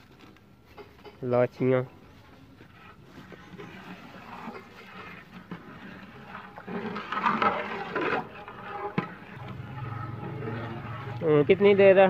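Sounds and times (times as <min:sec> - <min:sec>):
ladle stirring liquid in pot: 0:00.6 - 0:12.0.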